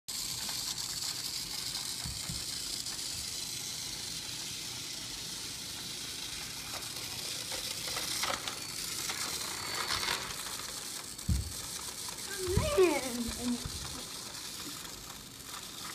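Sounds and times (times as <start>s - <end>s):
toy car motor whirring: 0.1s - 15.9s.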